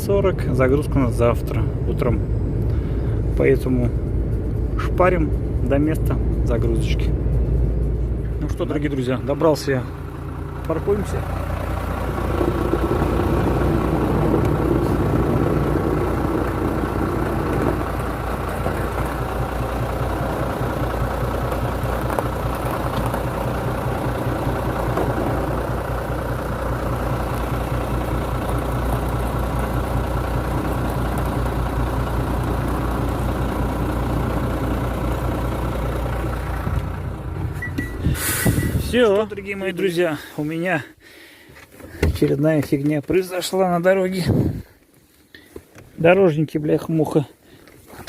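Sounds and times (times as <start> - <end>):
truck engine running at low revs: 0.0 - 40.3.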